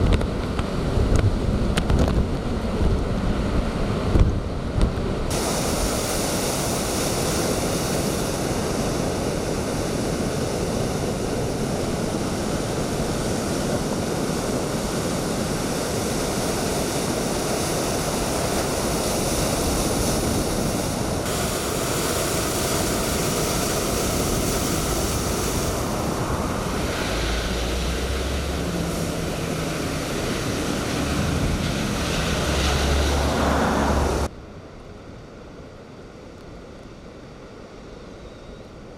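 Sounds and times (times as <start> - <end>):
strong wind rushing: 0.0 - 34.3
waves breaking: 0.0 - 34.3
wind rumble on microphone: 0.0 - 34.3.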